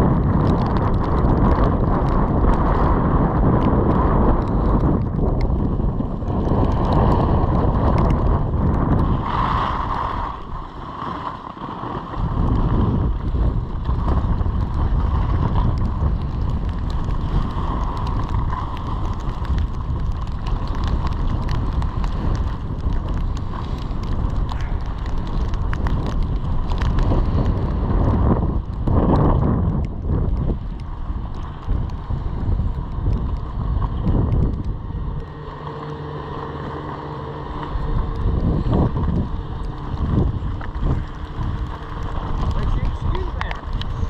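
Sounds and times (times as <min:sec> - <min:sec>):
skis scraping over snow: 0:00.0 - 0:44.0
wind rushing over microphone: 0:00.0 - 0:44.0.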